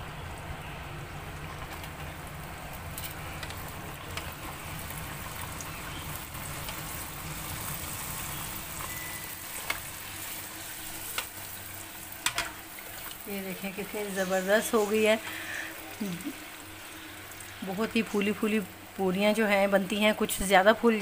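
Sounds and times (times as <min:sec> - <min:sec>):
dough sizzling in hot oil: 0:00.0 - 0:21.0.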